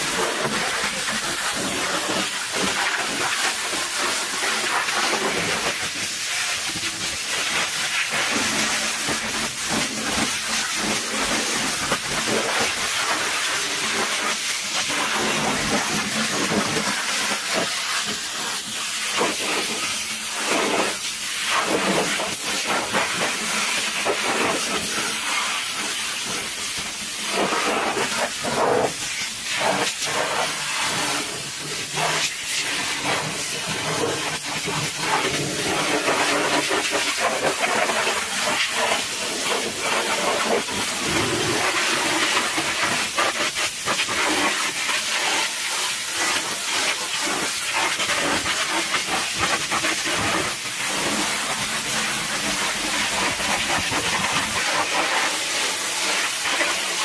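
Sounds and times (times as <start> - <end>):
pressure washer spraying water: 0.0 - 57.0.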